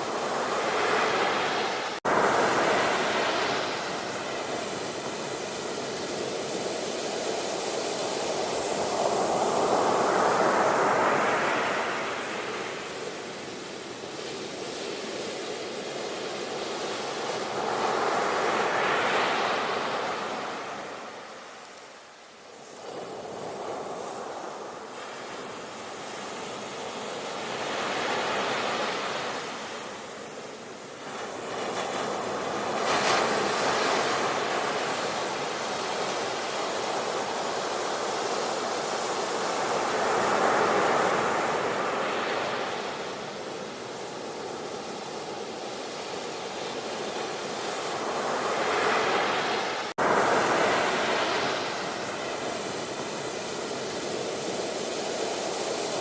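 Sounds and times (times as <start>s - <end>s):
sea waves breaking: 0.0s - 13.3s, 22.6s - 56.0s.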